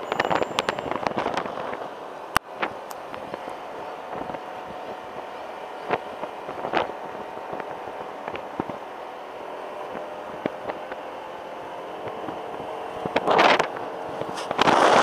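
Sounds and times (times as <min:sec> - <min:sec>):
faint engine hum: 0:00.0 - 0:15.0
wind buffeting microphone: 0:00.0 - 0:15.0.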